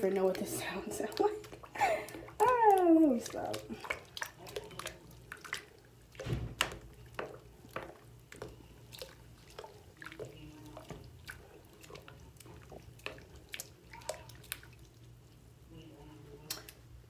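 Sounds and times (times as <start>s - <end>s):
water dripping into sink: 0.0s - 15.1s, 16.4s - 16.8s.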